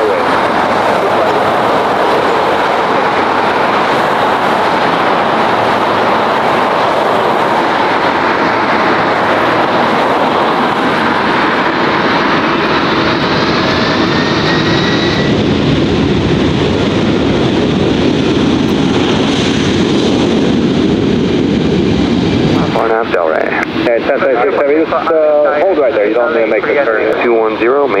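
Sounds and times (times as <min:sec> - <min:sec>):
jet engine whine: 0:00.0 - 0:28.0
jet engines rumbling and hissing: 0:00.0 - 0:28.0.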